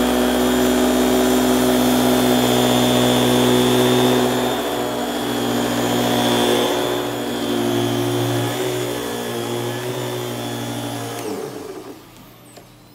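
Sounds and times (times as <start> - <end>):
canister vacuum running: 0.0 - 12.9.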